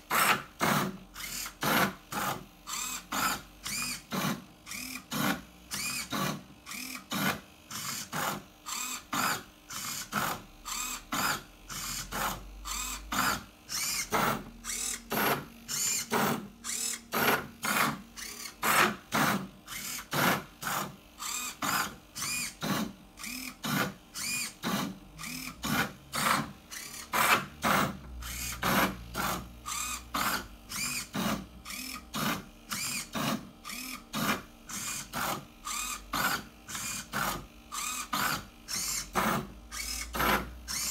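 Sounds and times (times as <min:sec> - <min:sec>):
robot motors whirring: 0:00.1 - 0:40.9.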